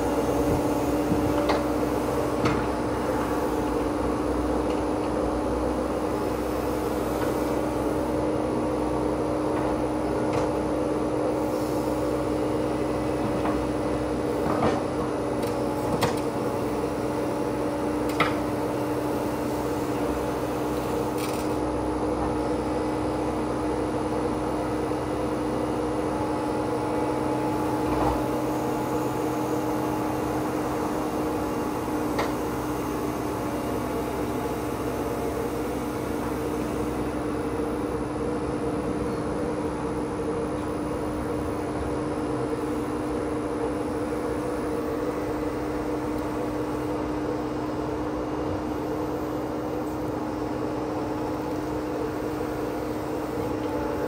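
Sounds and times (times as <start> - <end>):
excavator with flail mower running: 0.0 - 54.0.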